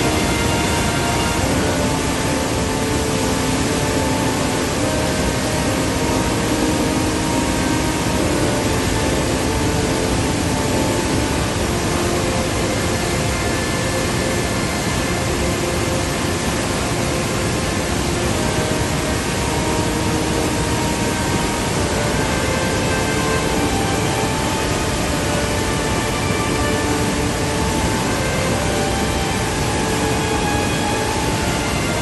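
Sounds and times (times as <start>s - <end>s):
roar of whitewater: 0.0s - 32.0s.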